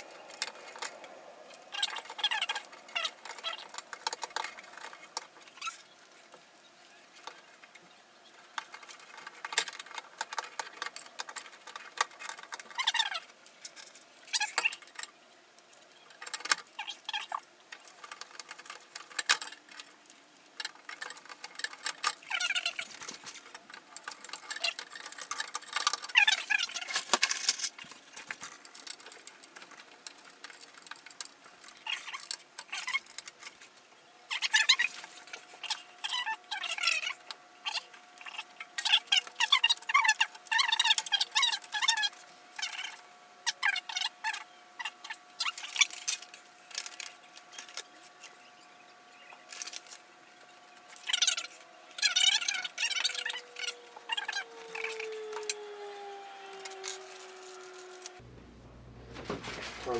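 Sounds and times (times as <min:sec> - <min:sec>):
computer parts clicking and rattling: 0:00.1 - 0:06.4, 0:07.1 - 0:48.4, 0:49.3 - 0:58.2, 0:59.2 - 0:59.9.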